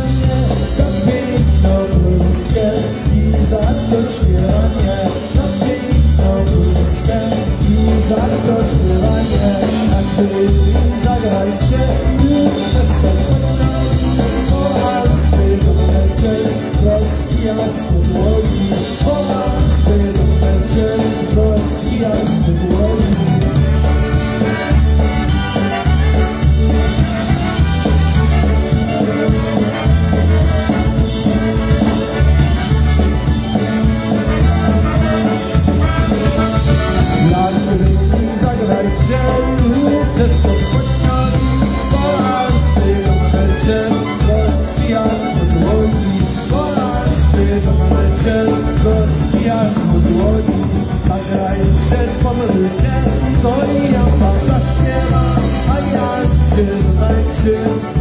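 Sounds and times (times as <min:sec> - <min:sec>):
polka band with brass: 0:00.0 - 0:58.0.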